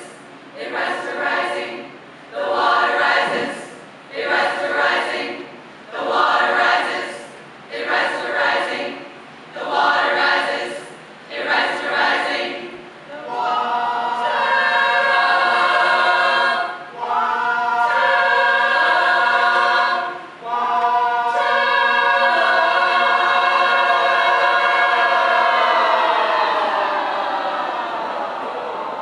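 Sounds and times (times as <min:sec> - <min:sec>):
choir singing wordless chords: 0:00.0 - 0:29.0.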